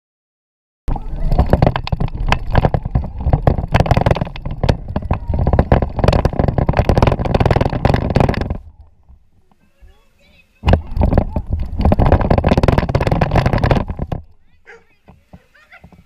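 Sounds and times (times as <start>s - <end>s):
toy car rattling over ground: 0.9s - 9.2s, 10.6s - 16.0s.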